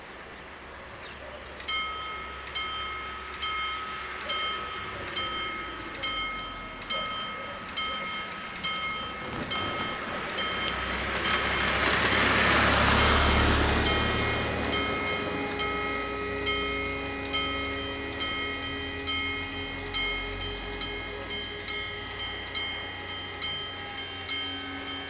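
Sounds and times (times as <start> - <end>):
car passing close: 1.1 - 25.0
level crossing warning bell: 1.6 - 25.0.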